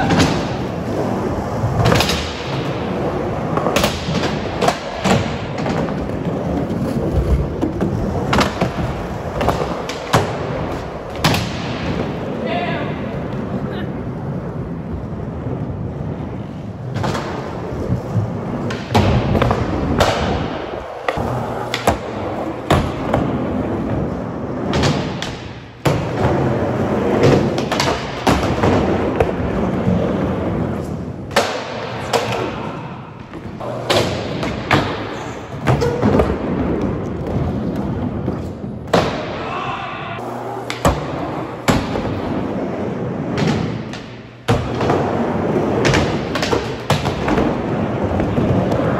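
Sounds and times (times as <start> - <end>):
skateboard wheels rolling: 0.0 - 48.9.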